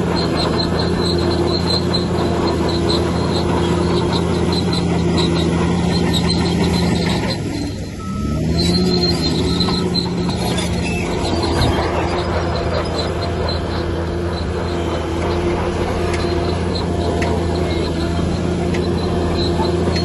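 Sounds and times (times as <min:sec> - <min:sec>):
bulldozer engine under load: 0:00.0 - 0:20.0
steel tracks squealing: 0:00.0 - 0:20.0.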